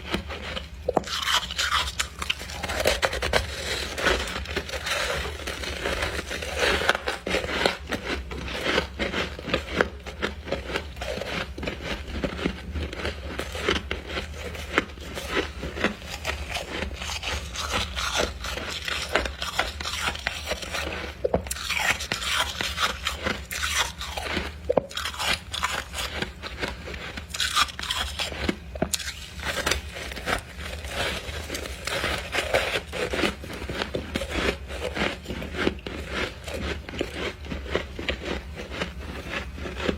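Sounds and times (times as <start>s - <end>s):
frost crunching being chewed: 0.0s - 39.9s
steady low hum: 0.0s - 39.9s.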